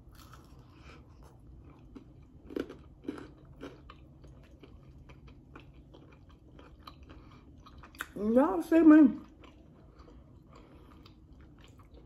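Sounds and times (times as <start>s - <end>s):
person chewing food: 0.0s - 8.2s, 9.2s - 12.0s.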